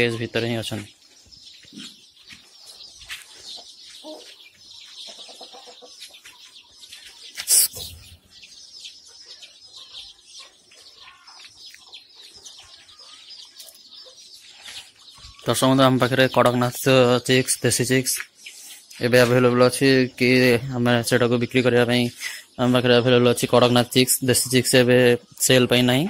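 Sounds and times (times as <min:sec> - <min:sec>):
chicks peeping and chirping: 0:00.0 - 0:26.0.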